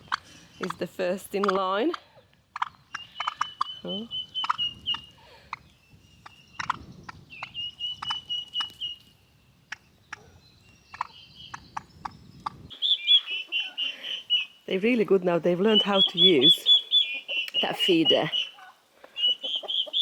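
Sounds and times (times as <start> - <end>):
poultry trilling: 0.0 - 9.1, 9.7 - 14.8, 15.4 - 20.0.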